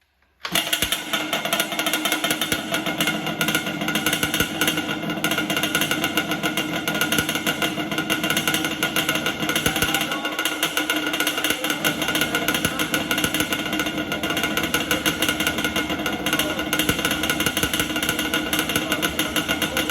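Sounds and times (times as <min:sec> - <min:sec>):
two-stroke engine buzzing: 0:00.5 - 0:19.9.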